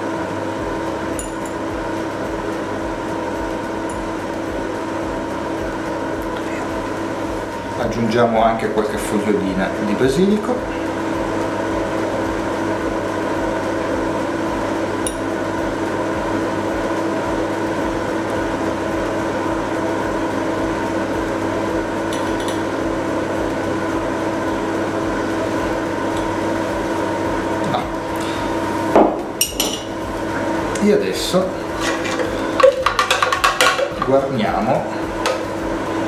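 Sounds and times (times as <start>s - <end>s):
steady hum of fixed tones: 0.0s - 36.0s.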